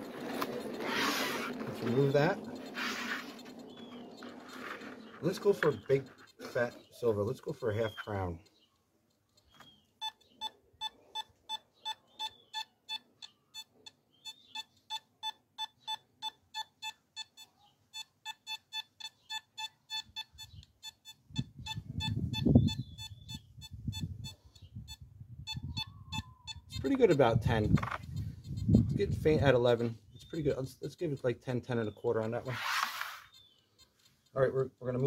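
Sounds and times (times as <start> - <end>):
metal detector beeping: 0.0 - 8.5, 9.4 - 35.0.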